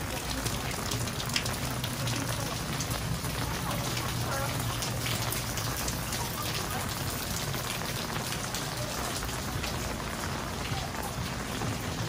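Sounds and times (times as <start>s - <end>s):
drips and splashes: 0.0s - 12.0s
heavy rain on pavement: 0.0s - 12.0s.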